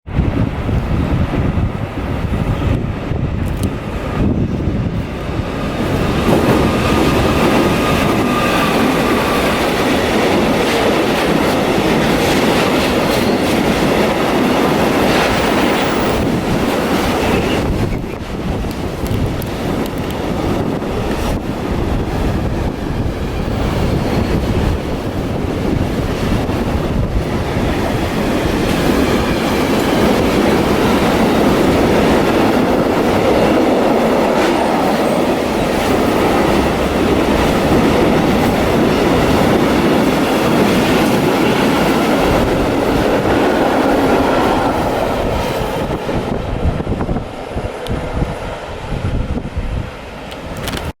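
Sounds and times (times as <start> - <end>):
freight train wheels clattering: 5.0 - 48.7.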